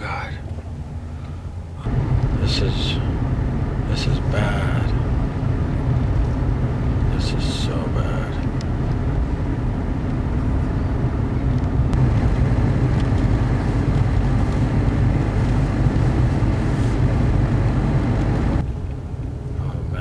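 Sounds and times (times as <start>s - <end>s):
car driving interior rumble: 0.0s - 20.0s.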